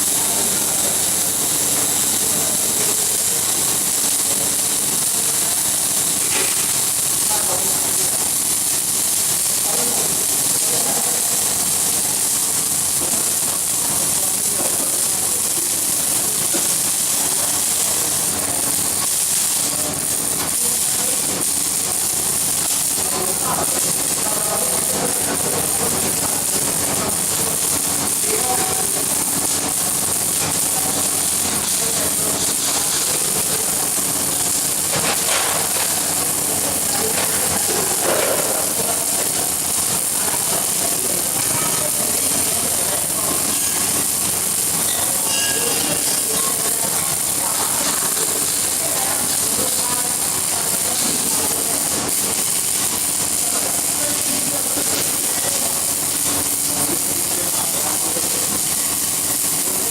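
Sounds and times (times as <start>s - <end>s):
welding arc hissing: 0.0s - 59.9s.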